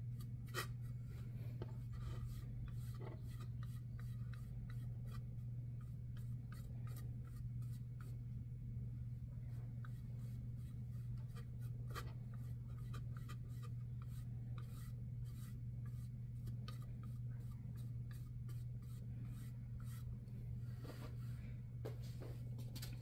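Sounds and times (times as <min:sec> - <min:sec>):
steady low hum: 0:00.0 - 0:23.0
paintbrush swishing: 0:00.1 - 0:08.3, 0:09.4 - 0:21.5.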